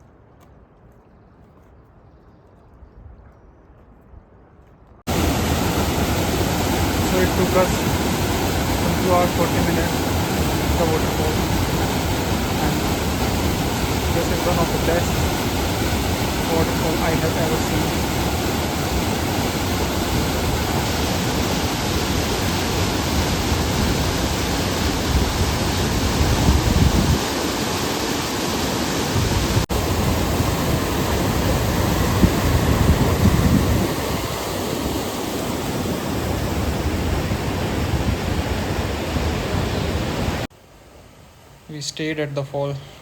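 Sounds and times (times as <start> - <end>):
waterfall rushing: 5.1 - 40.5.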